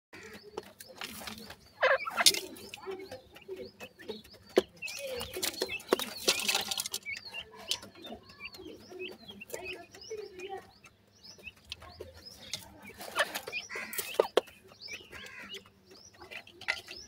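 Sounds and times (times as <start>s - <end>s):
chicks chirping: 0.2s - 17.0s
pecking taps in dry soil: 0.2s - 17.0s.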